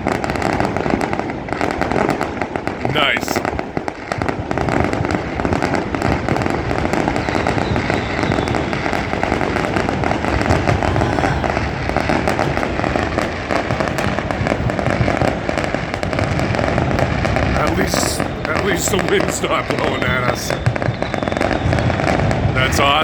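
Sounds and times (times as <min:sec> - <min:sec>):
fireworks and firecrackers crackling: 0:00.0 - 0:23.0.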